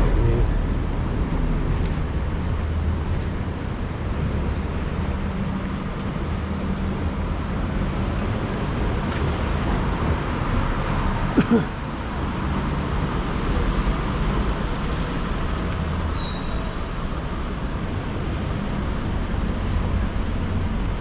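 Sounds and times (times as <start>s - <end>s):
street traffic: 0.0s - 21.0s.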